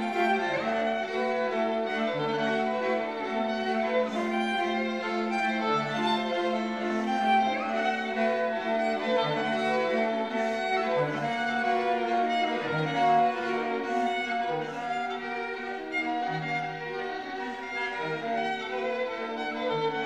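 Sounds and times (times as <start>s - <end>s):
string trio playing chords: 0.0s - 20.0s.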